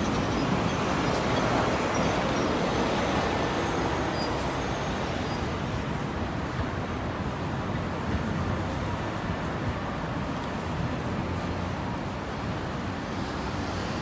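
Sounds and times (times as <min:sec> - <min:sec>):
road traffic passing: 0:00.0 - 0:14.0
tram rumbling on tracks: 0:00.0 - 0:14.0.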